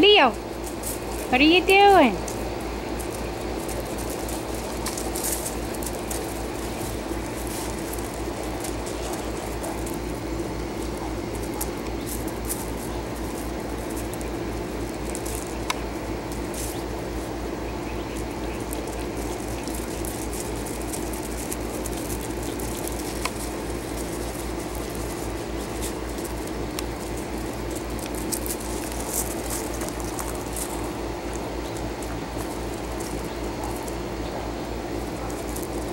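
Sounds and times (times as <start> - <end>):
low hum: 0.0 - 35.9
small dogs scuffling over gravel: 0.0 - 35.9
dogs gnawing chew bones: 2.2 - 35.9.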